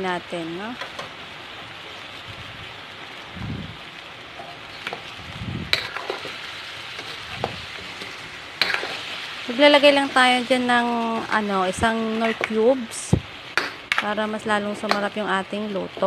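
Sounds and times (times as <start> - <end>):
meat and onion sizzling in wok: 0.0 - 16.0.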